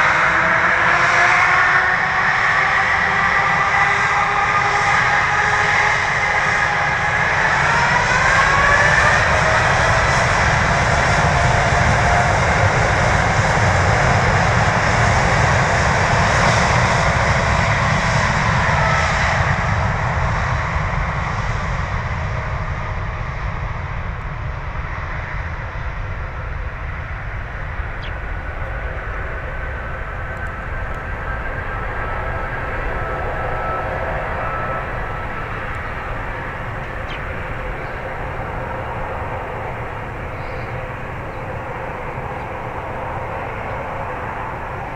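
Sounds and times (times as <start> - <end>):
gliding jet whines: 0.0 - 44.9
jet engines at takeoff: 0.0 - 44.9.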